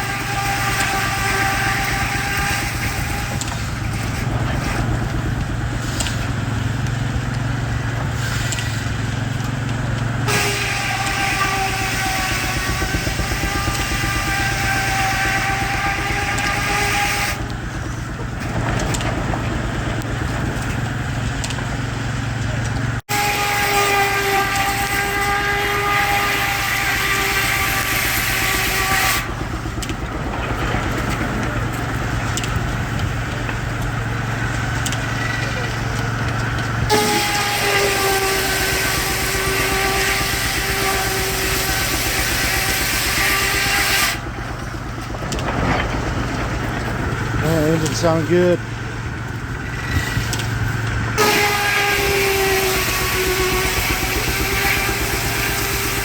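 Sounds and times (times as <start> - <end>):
circular saw cutting log: 0.0 - 56.0
sawmill whine: 0.0 - 56.0
steam engine exhaust beating: 0.0 - 56.0.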